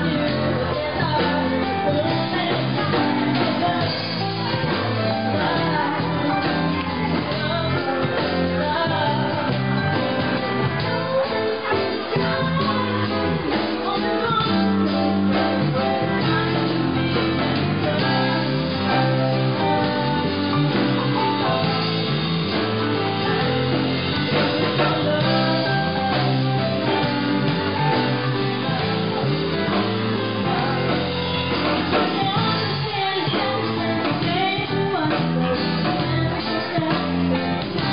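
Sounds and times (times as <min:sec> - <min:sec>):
keyboard: 0:00.0 - 0:37.9
woman singing: 0:00.0 - 0:37.9.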